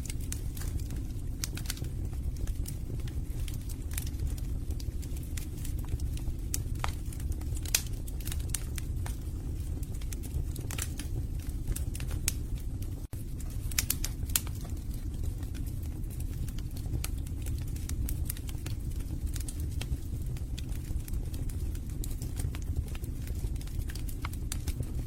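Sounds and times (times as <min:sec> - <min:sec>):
logs crackling and popping: 0:00.0 - 0:25.0
low rumble of flames: 0:00.0 - 0:25.0.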